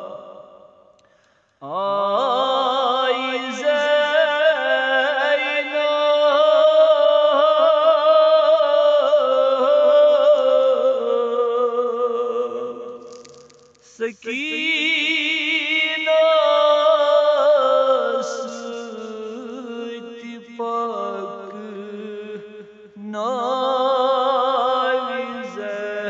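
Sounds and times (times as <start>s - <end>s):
man chanting a lament: 0.0s - 0.6s, 1.6s - 13.0s, 13.9s - 26.0s.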